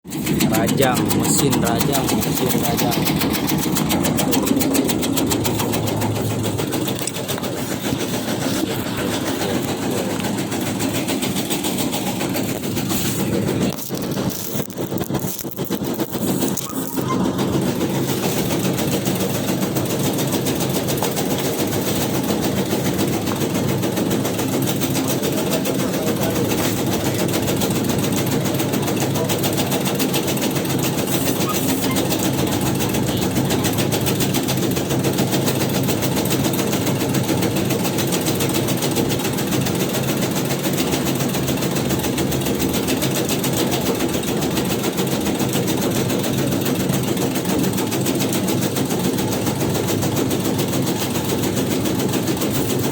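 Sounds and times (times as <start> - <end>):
shredding machine chatter: 0.0 - 52.9.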